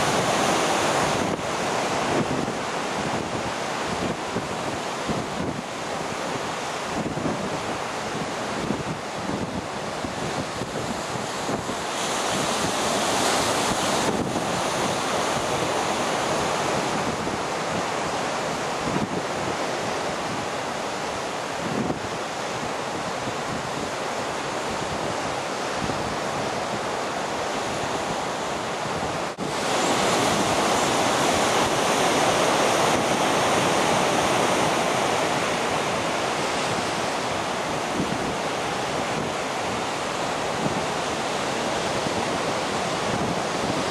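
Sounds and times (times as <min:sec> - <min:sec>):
rough surf breaking: 0:00.0 - 0:43.9
wind buffeting microphone: 0:00.0 - 0:43.9.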